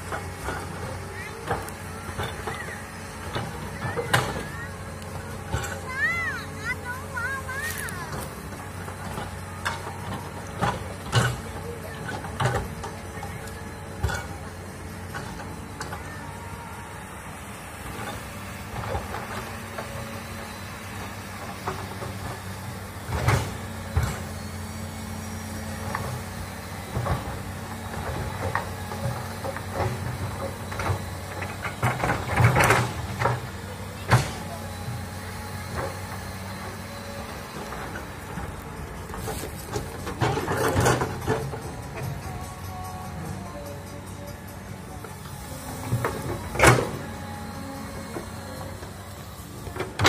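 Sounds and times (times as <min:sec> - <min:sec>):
excavator clanks and knocks: 0:00.0 - 0:50.0
excavator diesel engine running: 0:00.0 - 0:50.0.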